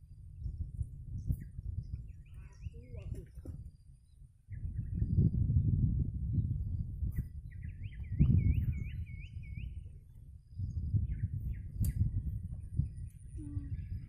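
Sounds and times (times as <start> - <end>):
steady low rumbling: 0.0 - 14.0.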